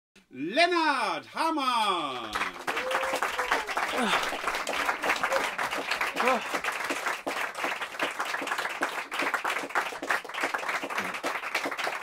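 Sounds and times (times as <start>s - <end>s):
audience applauding: 2.1s - 12.0s.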